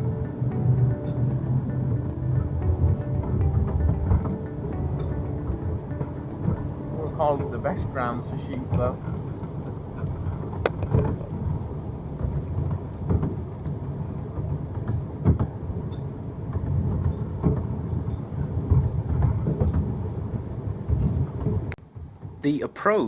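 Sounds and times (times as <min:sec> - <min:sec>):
train running low rumble: 0:00.0 - 0:21.8.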